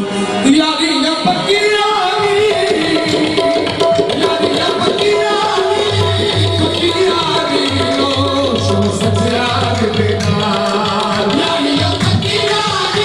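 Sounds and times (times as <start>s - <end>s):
tabla drumming: 0.4s - 13.0s.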